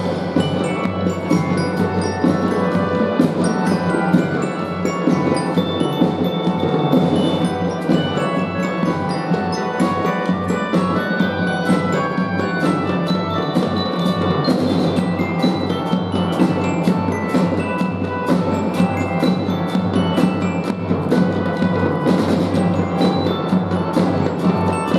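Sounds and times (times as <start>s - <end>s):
fife and drum band playing: 0.0s - 24.9s
glockenspiel notes: 0.0s - 24.9s.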